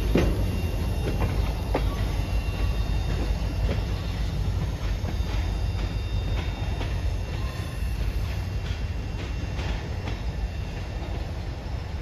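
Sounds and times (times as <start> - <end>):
freight cars rumbling over track: 0.0 - 12.0
wheels clicking over rail joints: 0.0 - 12.0.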